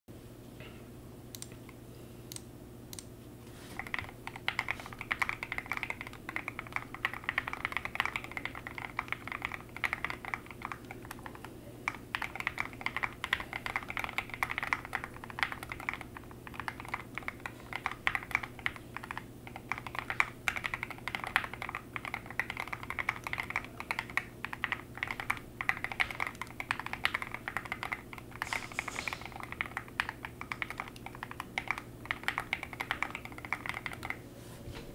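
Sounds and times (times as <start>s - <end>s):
mechanical keyboard typing: 3.8s - 34.2s.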